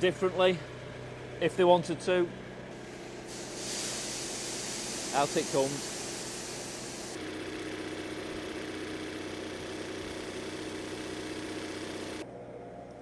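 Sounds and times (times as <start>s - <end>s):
diesel engine idling: 0.0s - 12.2s.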